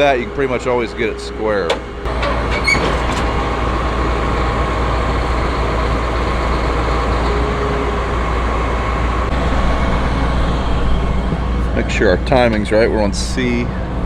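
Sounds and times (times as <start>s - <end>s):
combine engine drone: 0.0s - 14.0s
high whine: 0.0s - 14.0s.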